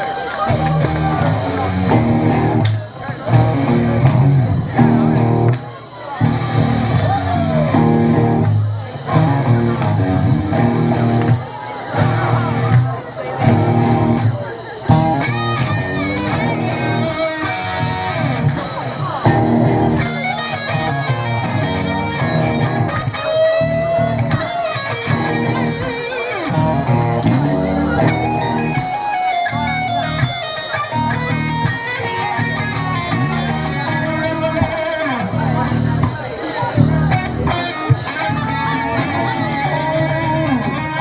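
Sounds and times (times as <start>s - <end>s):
electric guitar with bent notes: 0.0s - 41.0s
live rock band playing: 0.0s - 41.0s.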